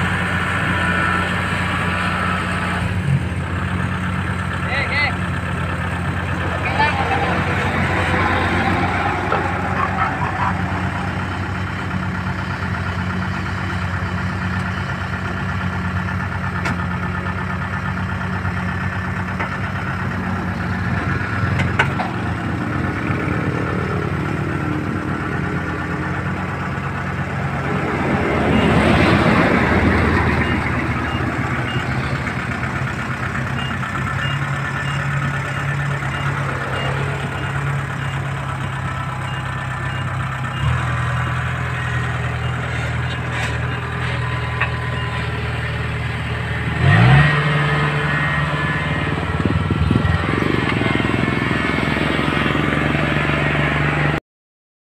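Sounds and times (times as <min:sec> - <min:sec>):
diesel engine running: 0:00.0 - 0:54.2.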